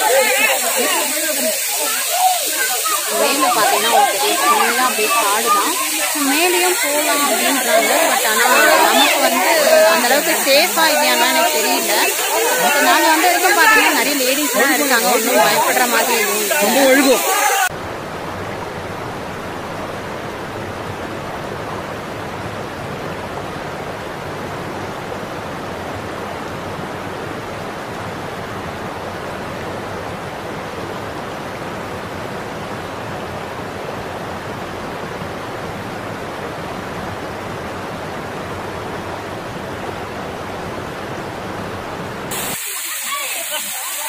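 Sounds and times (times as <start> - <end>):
waterfall rushing over rocks: 0.0 - 44.0.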